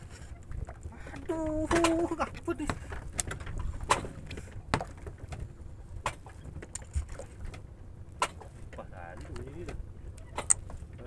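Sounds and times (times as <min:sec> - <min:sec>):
water rumbling around hull: 0:00.0 - 0:11.0
sharp knocks on boat: 0:01.6 - 0:10.8.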